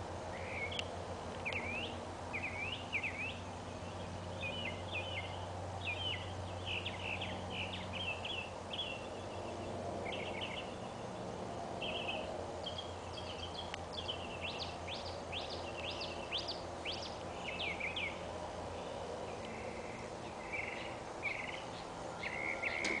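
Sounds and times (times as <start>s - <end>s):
birds chirping and singing: 0.3s - 23.0s.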